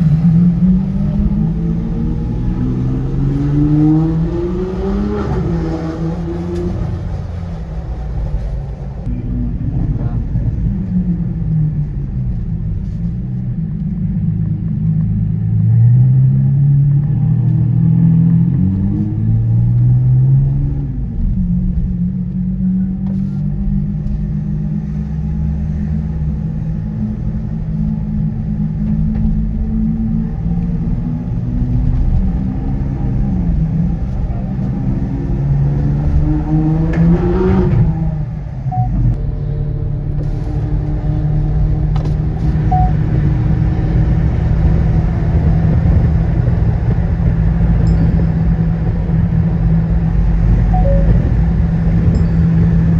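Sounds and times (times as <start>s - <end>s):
car engine rumbling and revving: 0.0s - 52.9s.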